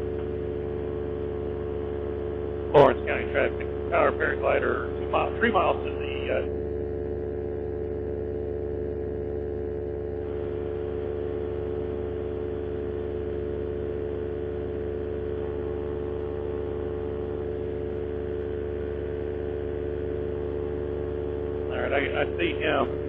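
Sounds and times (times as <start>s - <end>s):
paramotor engine and propeller drone: 0.0s - 23.0s.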